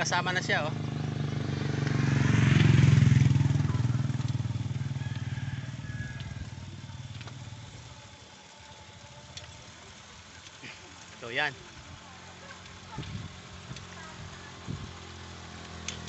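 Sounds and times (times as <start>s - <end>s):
motorcycle passing: 0.0s - 16.0s.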